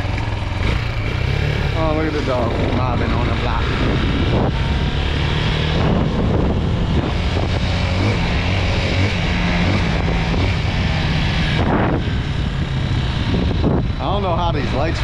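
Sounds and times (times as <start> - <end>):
dirt bike engine running: 0.0 - 15.0
wind on microphone: 1.7 - 15.0.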